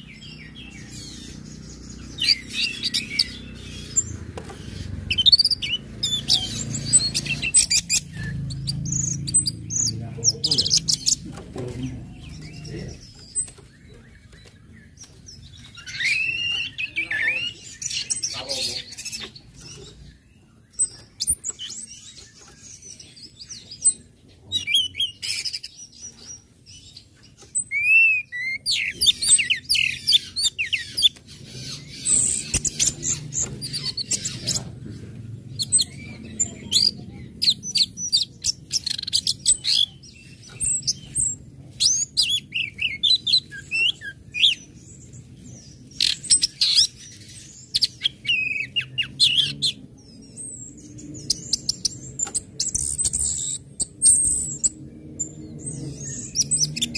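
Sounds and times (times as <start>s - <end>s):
thrush chirping and twittering: 0.0s - 56.9s.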